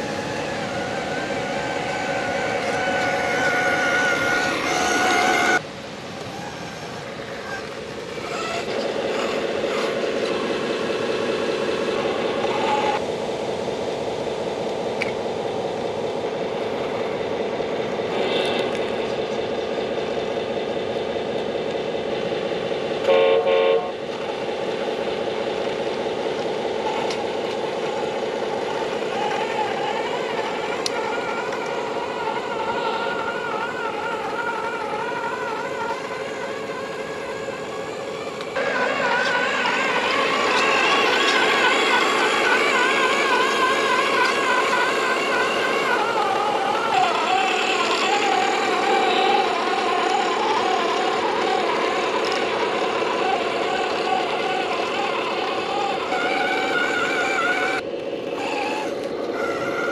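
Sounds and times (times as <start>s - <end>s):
electric drivetrain whining: 0.0s - 59.9s.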